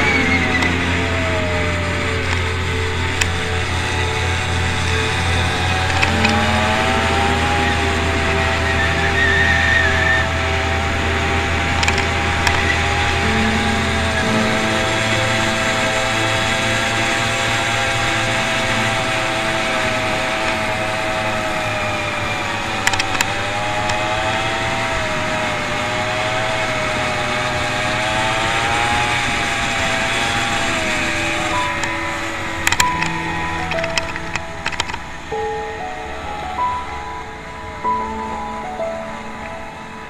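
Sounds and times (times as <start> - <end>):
small gas engine revving: 0.0 - 35.4.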